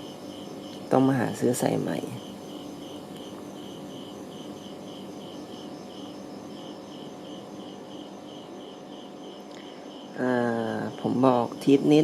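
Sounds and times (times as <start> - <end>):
cricket chirping: 0.0 - 12.0
faint steady hum: 0.0 - 12.0.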